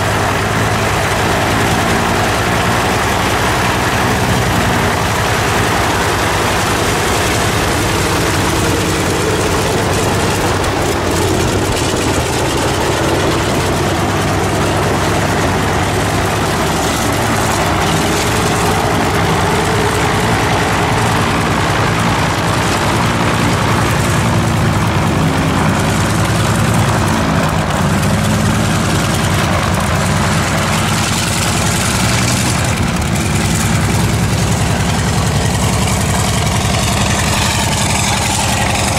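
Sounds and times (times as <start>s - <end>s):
aircraft radial engine running: 0.0s - 38.9s.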